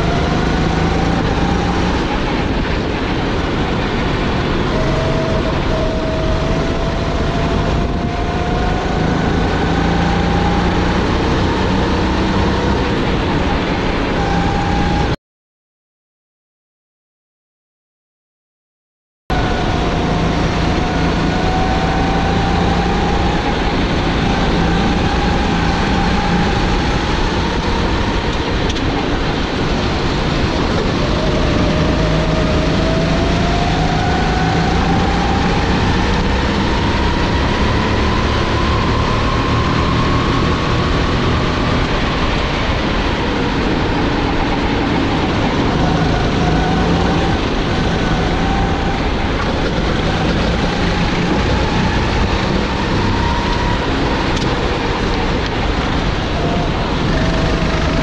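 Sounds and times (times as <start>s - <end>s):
kart engine running hard: 0.0s - 15.2s, 19.3s - 58.0s.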